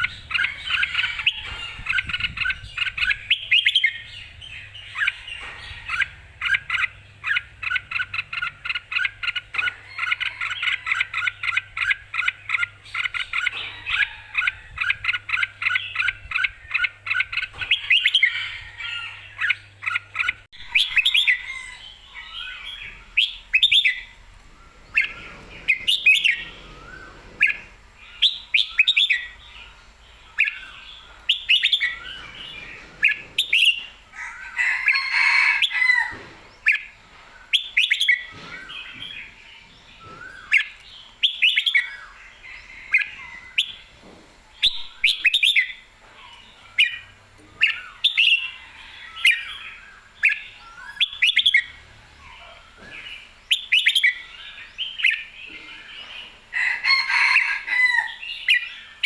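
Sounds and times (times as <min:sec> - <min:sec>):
bird chirping and warbling: 0:00.0 - 0:59.0.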